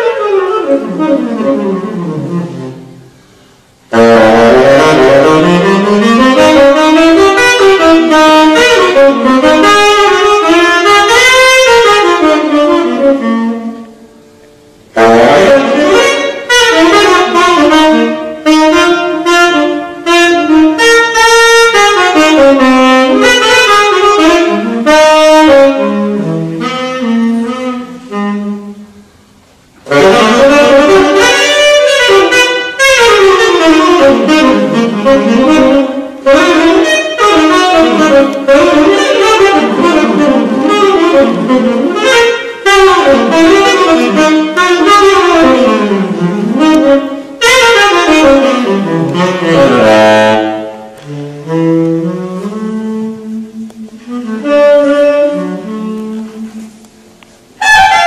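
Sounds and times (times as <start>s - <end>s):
tenor saxophone playing jazz: 0.0s - 58.0s.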